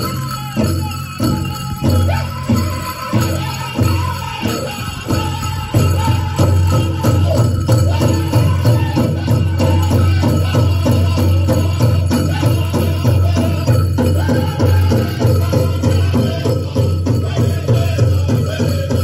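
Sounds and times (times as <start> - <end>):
jingling: 0.0 - 19.0
steady drumbeat: 0.0 - 19.0.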